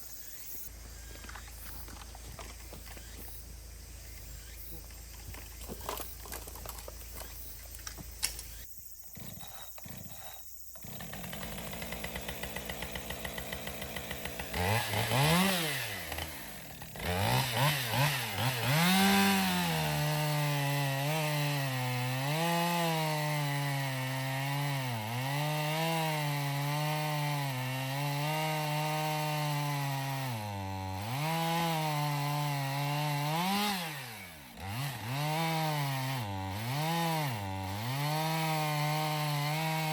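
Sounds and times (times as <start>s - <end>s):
chainsaw cutting wood: 0.2s - 39.9s.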